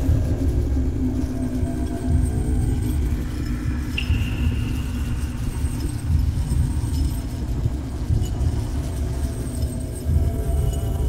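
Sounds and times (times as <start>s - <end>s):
deep rumbling drone: 0.0s - 11.0s.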